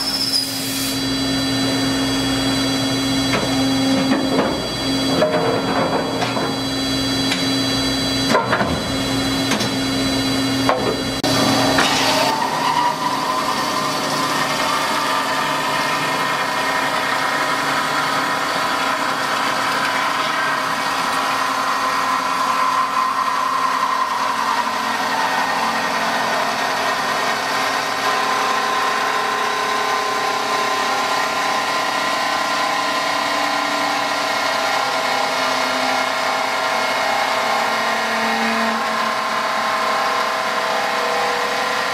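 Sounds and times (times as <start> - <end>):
band saw cutting steel: 0.0 - 41.9.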